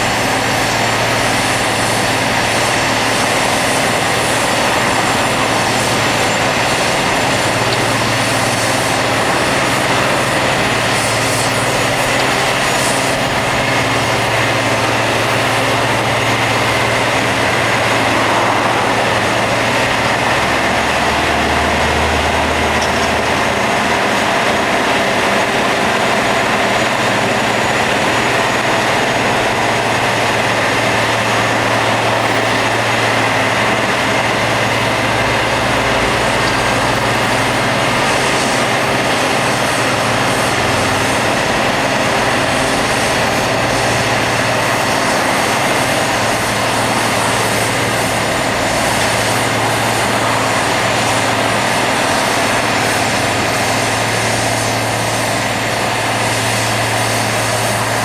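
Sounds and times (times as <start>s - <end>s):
grinding wheels on rail: 0.0s - 58.0s
machine engines droning: 0.0s - 58.0s.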